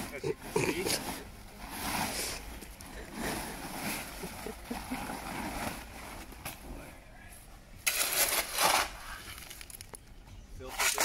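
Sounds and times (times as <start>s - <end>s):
plastic tarpaulins rustling: 0.0s - 7.0s, 7.8s - 10.0s, 10.6s - 11.0s.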